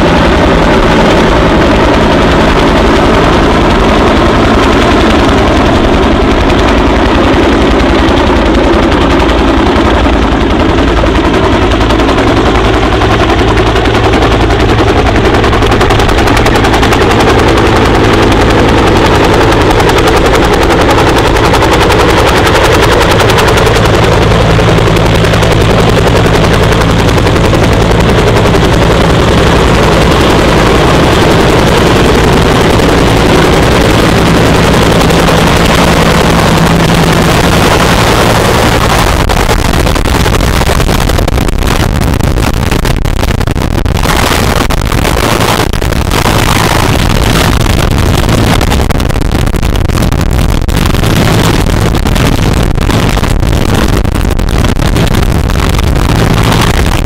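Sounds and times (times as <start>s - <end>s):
helicopter engine drone: 0.0s - 57.0s
helicopter rotor thumping: 0.0s - 57.0s.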